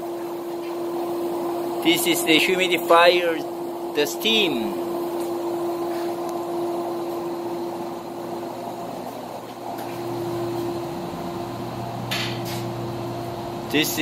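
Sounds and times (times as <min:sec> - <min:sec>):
deeper hum: 0:00.0 - 0:13.8
steam humidifier humming and rushing: 0:00.0 - 0:14.0.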